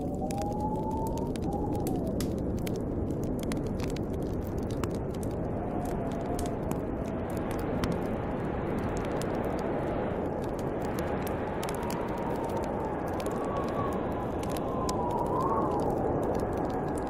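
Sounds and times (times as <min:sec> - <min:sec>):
wind blowing with whistle: 0:00.0 - 0:03.1, 0:05.2 - 0:17.0
fire crackling and popping: 0:00.0 - 0:17.0.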